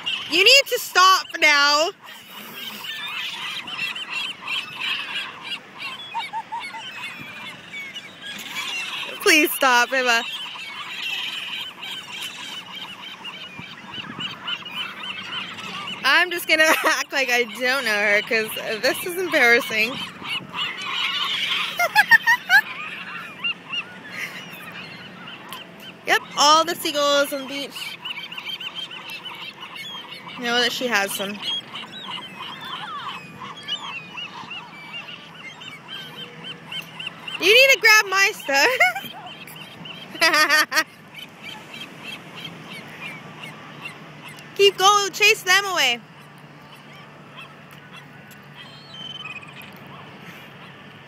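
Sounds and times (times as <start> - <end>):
gulls calling: 0.0 - 51.0.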